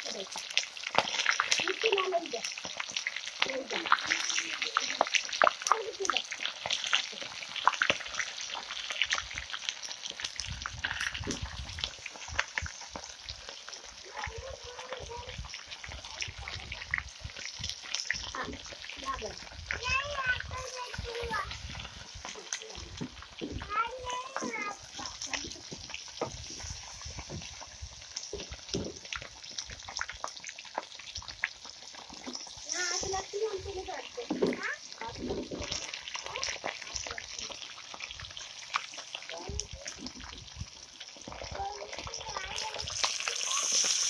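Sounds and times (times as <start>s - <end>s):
oil sizzling while deep-frying: 0.0s - 44.0s.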